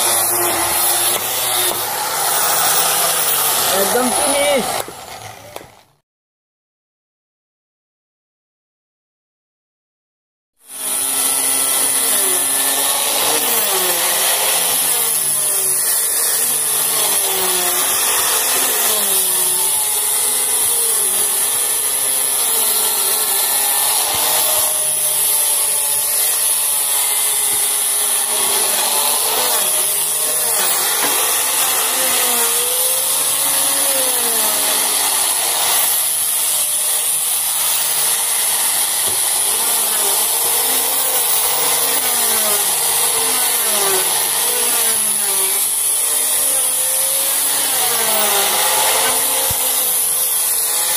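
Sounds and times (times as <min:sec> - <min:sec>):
electric wood planer running: 0:00.0 - 0:05.9, 0:10.6 - 0:50.9.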